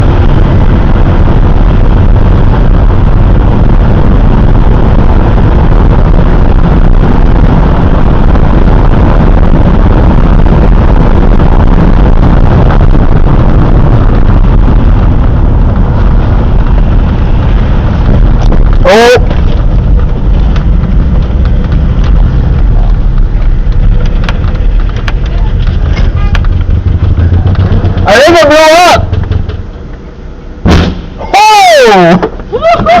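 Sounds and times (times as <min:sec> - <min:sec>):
wind on microphone: 0:00.0 - 0:28.3
car engine running hard: 0:00.0 - 0:33.0.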